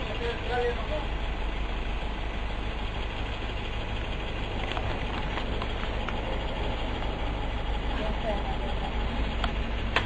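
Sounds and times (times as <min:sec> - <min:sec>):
bus engine rumbling: 0:00.0 - 0:10.0.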